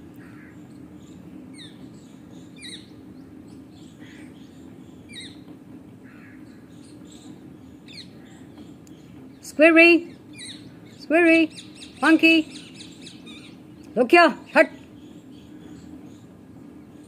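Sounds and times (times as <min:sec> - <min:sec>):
steady low hum: 0:00.0 - 0:17.0
high falling bird chirps: 0:00.2 - 0:17.0.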